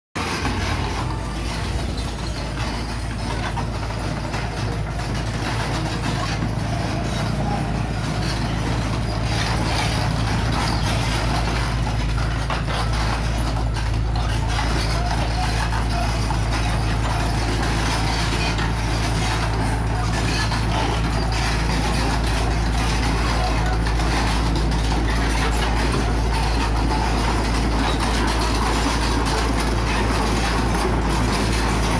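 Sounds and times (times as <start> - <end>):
excavator diesel engine running: 0.2 - 31.9
excavator tracks moving: 0.2 - 31.9.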